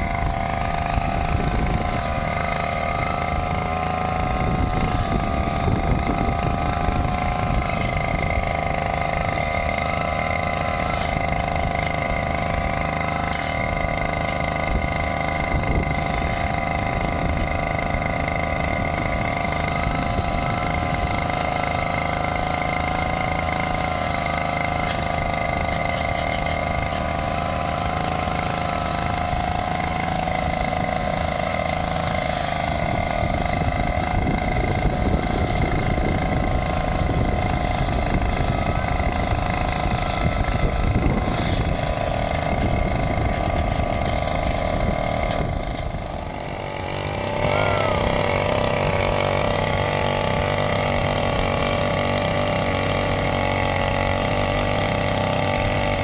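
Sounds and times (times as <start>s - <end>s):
brush-cutter engine running: 0.0s - 56.0s
rotary tiller in soil: 0.0s - 56.0s.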